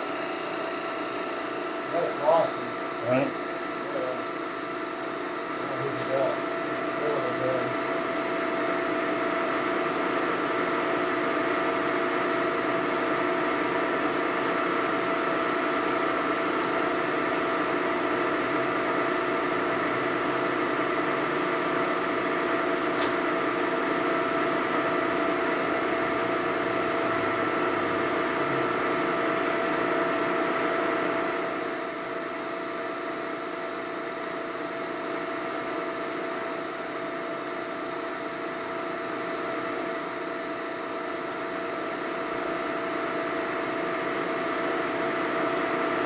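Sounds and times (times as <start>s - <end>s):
milling machine humming and whining: 0.0s - 46.0s.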